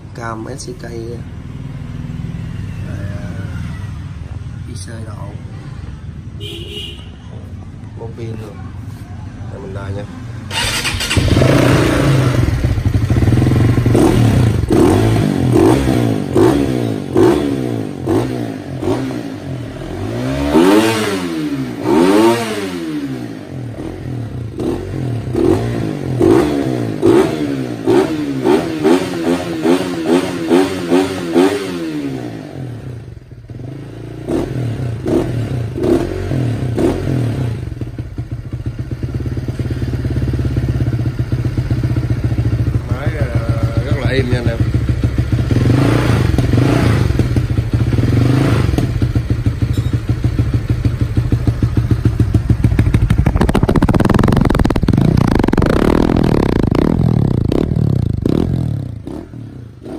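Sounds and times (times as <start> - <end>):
motorcycle engine revving: 10.0 - 59.9.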